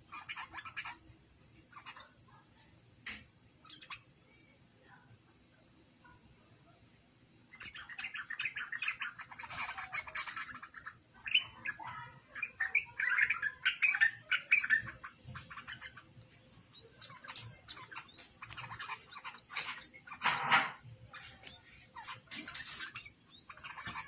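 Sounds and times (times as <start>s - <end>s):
birds chirping and chattering: 0.0s - 6.3s, 7.4s - 24.0s.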